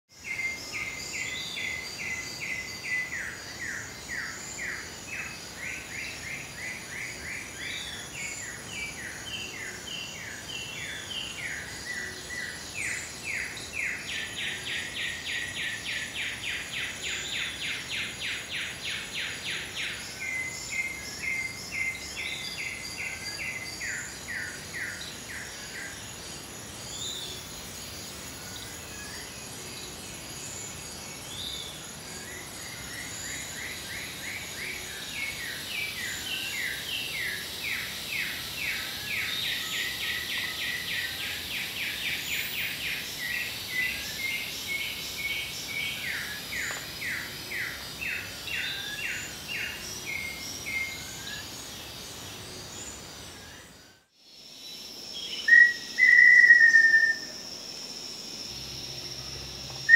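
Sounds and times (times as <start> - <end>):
birds singing: 0.1 - 59.9
insects droning: 0.1 - 59.9.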